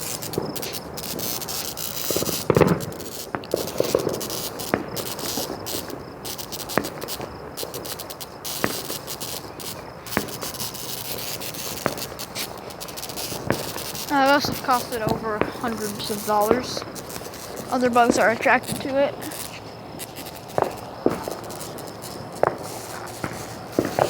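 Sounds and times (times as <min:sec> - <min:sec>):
sharp cracks and pops: 0:00.0 - 0:24.0
steady high hiss: 0:00.0 - 0:24.0.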